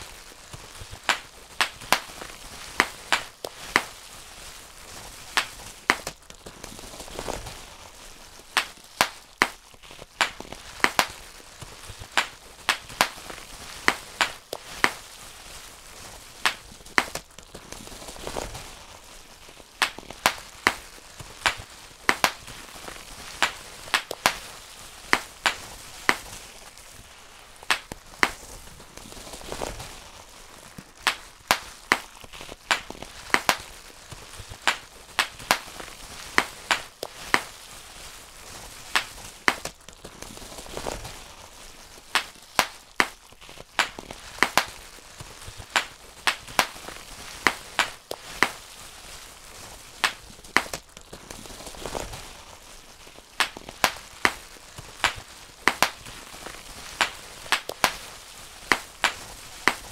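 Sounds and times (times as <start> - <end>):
bubble wrap popping: 0.0 - 59.9
plastic sheet rustling: 0.0 - 59.9.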